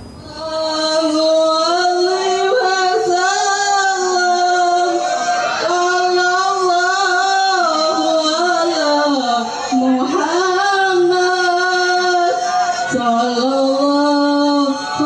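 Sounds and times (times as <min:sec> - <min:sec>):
person singing long notes: 0:00.2 - 0:15.0.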